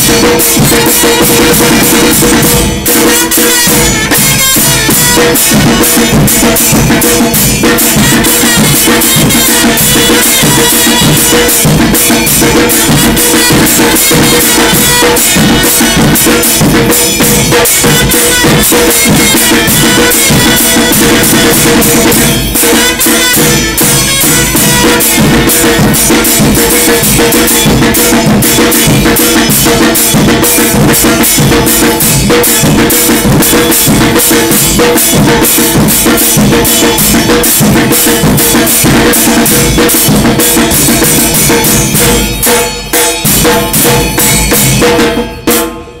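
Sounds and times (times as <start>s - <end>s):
bass drums fast beat: 0.0s - 45.2s
cymbal crashes: 0.0s - 46.0s.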